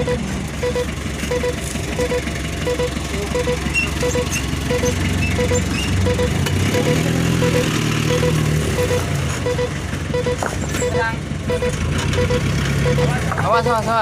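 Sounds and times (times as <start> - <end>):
reversing alarm double beeps: 0.0 - 13.8
diesel truck engine running: 0.0 - 14.0.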